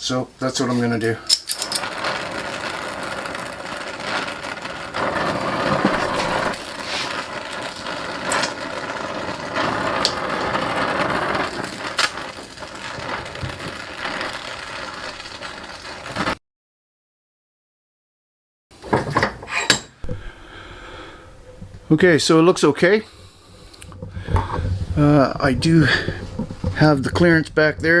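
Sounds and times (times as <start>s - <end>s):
gas torch hissing: 0.8s - 16.4s, 20.0s - 27.7s.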